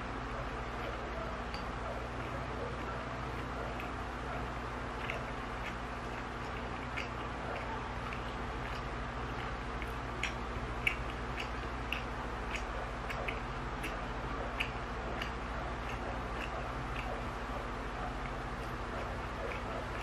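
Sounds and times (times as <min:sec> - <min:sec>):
low hum of electric pan: 0:00.0 - 0:20.0
wet chewing clicks: 0:00.0 - 0:20.0.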